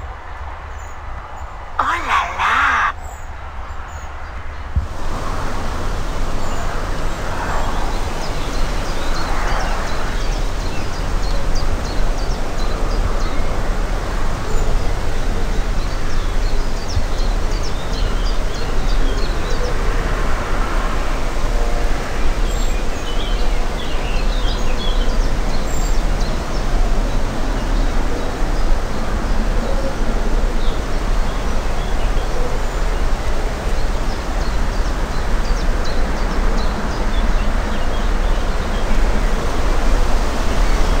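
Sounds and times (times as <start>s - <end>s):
wind rumbling on microphone: 3.1s - 41.0s.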